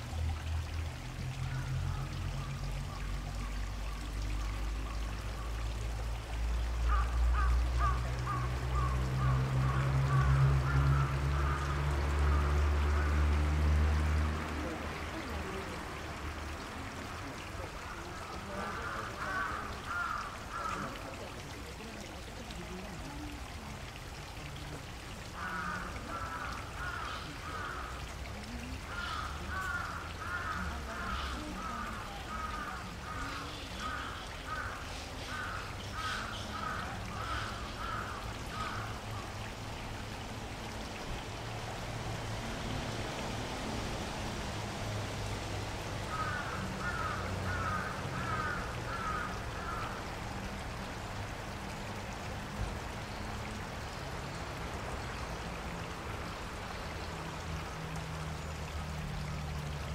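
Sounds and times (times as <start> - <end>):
water flowing in a stream: 0.0 - 59.9.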